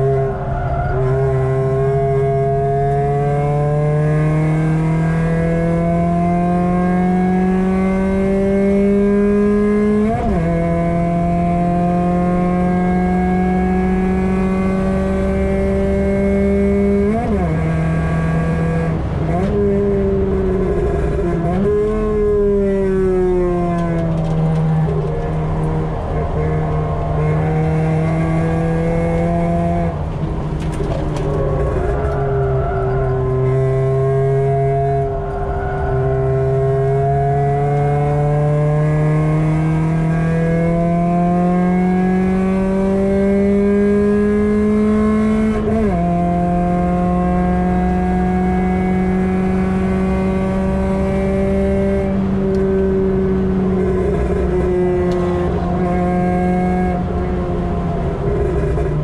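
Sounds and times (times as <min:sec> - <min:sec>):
car engine at full throttle: 0:00.0 - 0:59.0.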